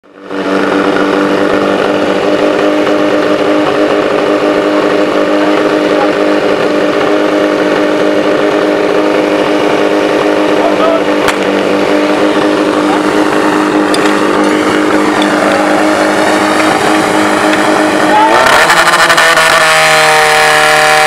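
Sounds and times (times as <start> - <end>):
pump engine running steadily: 0.0 - 21.0.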